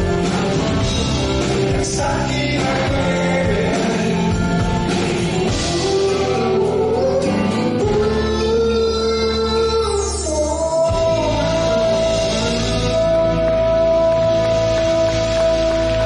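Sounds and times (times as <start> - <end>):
pop-rock band playing: 0.0 - 16.0
voices singing together: 0.0 - 16.0.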